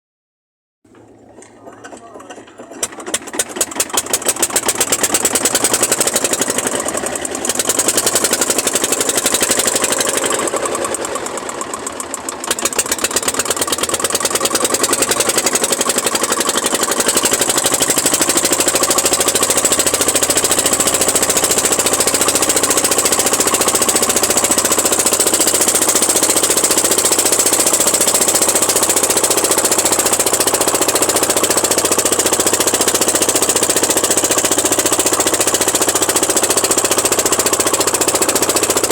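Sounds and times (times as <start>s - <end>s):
boat engine knocking: 1.9s - 38.9s.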